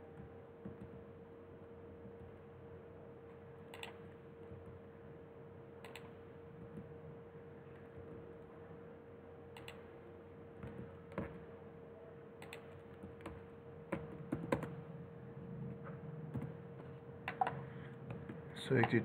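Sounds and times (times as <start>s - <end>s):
faint steady hum and hiss: 0.0s - 19.0s.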